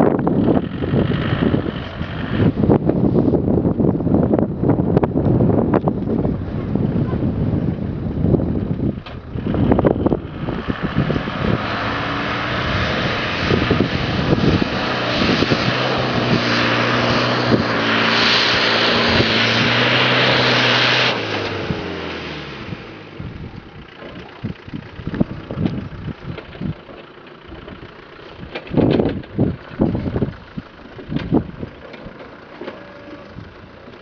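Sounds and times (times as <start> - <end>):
engine pulling hard under load: 0.0 - 34.0.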